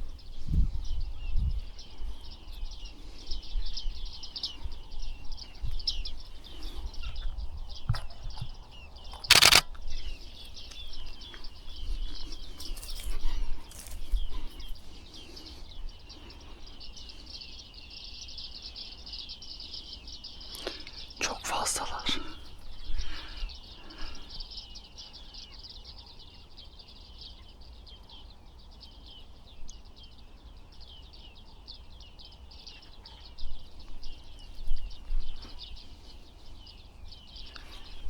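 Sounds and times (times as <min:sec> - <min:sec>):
birds calling in a flock: 0:00.0 - 0:38.0.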